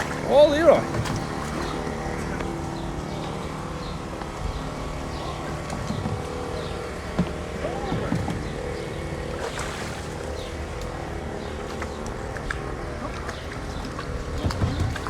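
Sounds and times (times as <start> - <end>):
faint ambient noises: 0.0 - 15.0
steady mechanical hum: 0.0 - 15.0.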